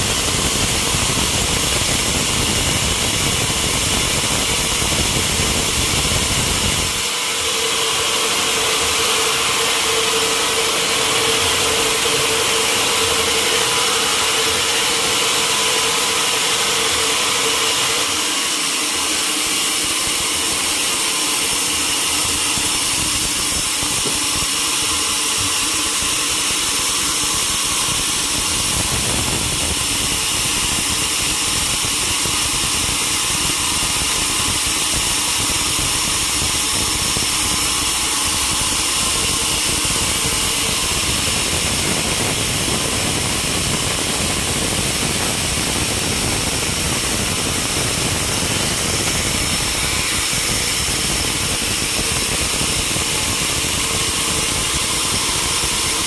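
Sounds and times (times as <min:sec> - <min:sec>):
high steady saw whine: 0:00.0 - 0:56.0
sawmill machinery running: 0:00.0 - 0:56.0.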